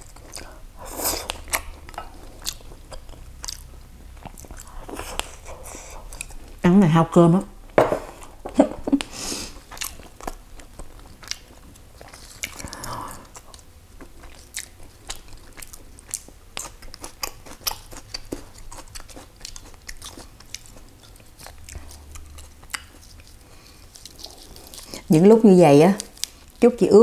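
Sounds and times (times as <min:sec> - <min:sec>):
chewing and crunching food: 0:00.0 - 0:06.6, 0:08.9 - 0:27.0.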